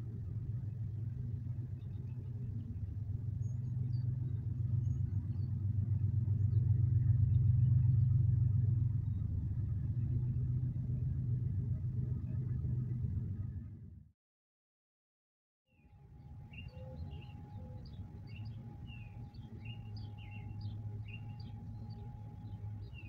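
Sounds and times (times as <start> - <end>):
low mechanical rumble: 0.0 - 14.1, 15.9 - 23.0.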